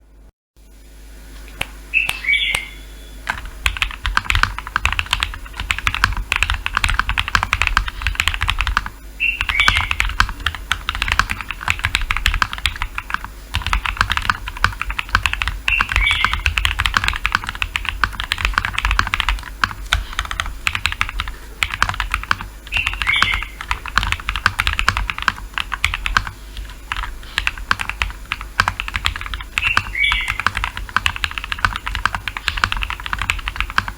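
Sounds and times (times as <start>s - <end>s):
mechanical keyboard typing: 3.3s - 33.9s.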